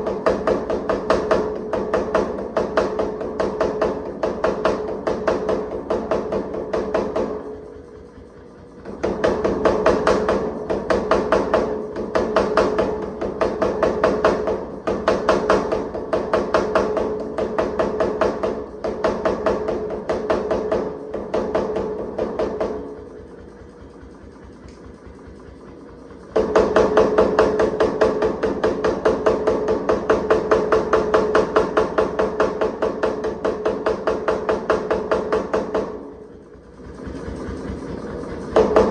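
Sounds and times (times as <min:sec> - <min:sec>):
power hammer rapid blows: 0:00.0 - 0:38.9.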